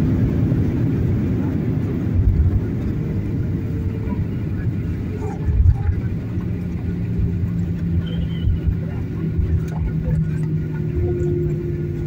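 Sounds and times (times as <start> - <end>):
low hum: 0.0 - 12.0
low rumble of wheels and engines: 0.0 - 12.0.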